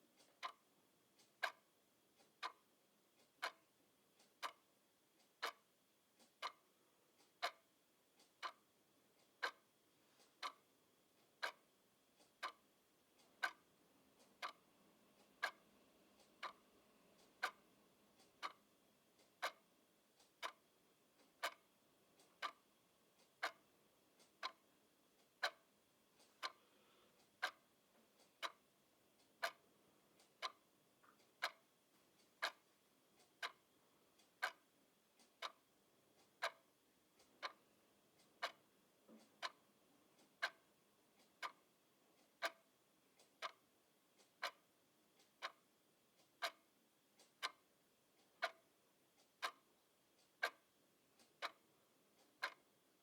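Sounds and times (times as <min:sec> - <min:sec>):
clock ticking: 0:00.0 - 0:53.0.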